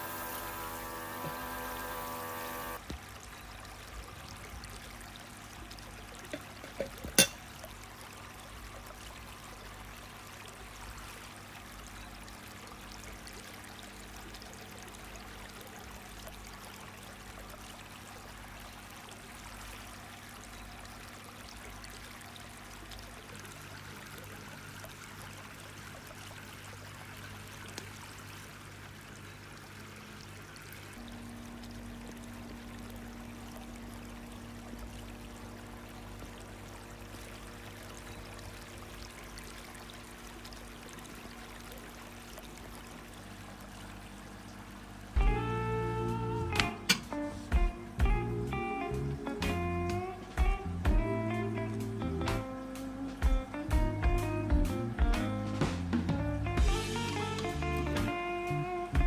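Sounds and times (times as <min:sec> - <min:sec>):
water trickling: 0:00.0 - 0:55.4, 0:56.4 - 0:59.0.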